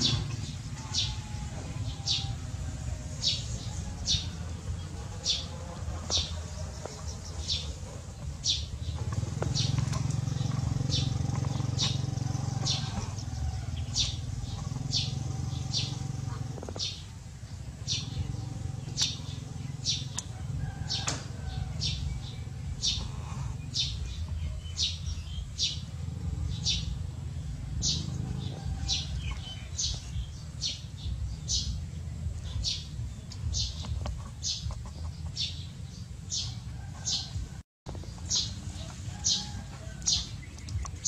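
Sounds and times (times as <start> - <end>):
bird chirping: 0.0 - 37.3, 37.9 - 41.0
steady low rumble: 0.0 - 41.0.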